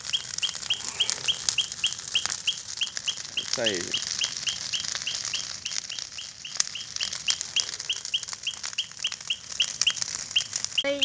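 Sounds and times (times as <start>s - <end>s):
steady high hiss: 0.0s - 10.0s
animal chirping: 0.0s - 11.0s
bonfire crackling and popping: 0.0s - 11.0s.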